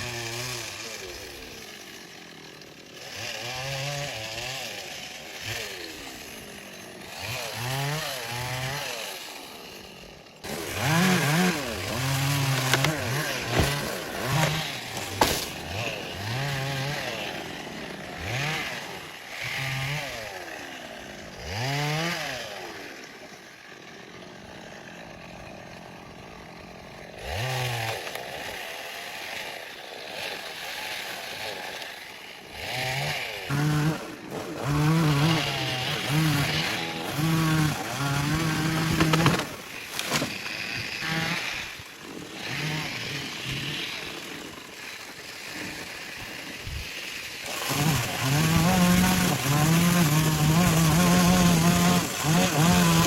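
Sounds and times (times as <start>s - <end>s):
chainsaw engine revving: 0.0s - 53.0s
chainsaw idling: 0.0s - 53.0s.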